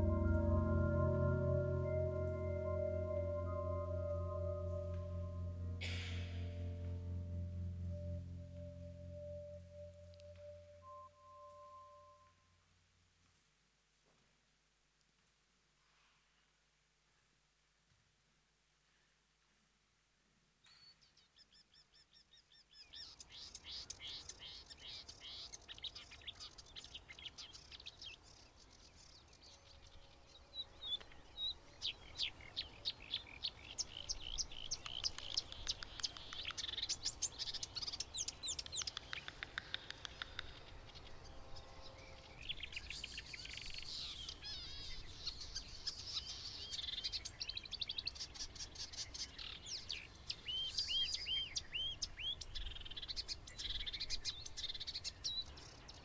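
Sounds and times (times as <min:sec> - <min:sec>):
songbird singing: 0:00.0 - 0:12.4, 0:20.7 - 0:56.0.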